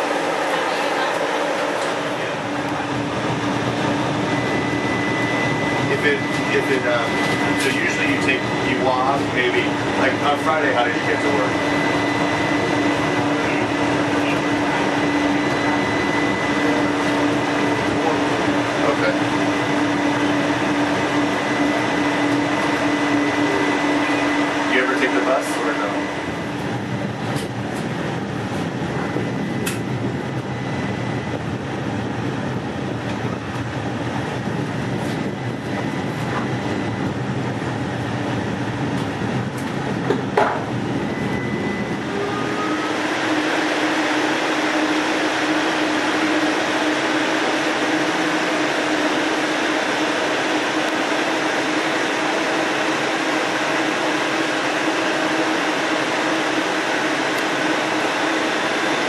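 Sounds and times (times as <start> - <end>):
steady hum: 0.0 - 59.0
streetcar running rumble: 0.0 - 59.0.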